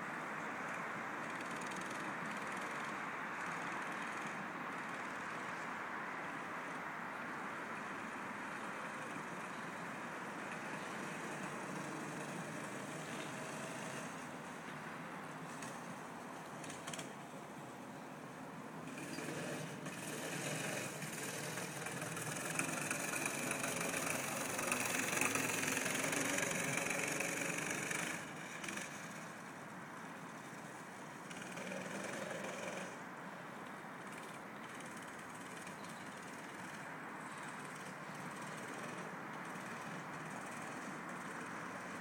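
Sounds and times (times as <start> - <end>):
go-kart engines running: 0.0 - 42.0.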